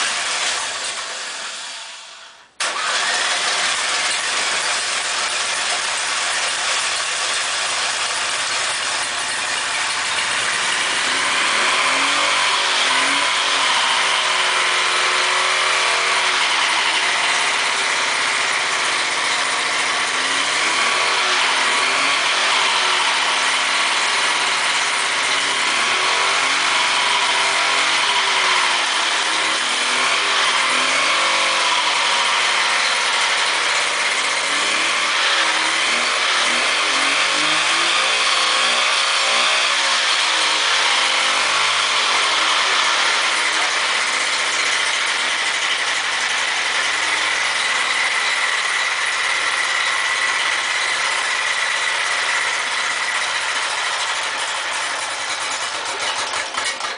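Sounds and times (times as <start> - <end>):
two-stroke engine running: 0.0 - 56.9.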